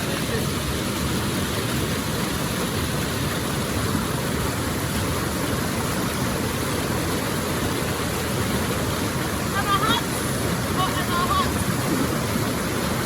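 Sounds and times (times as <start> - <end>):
water rushing over rapids: 0.0 - 13.0.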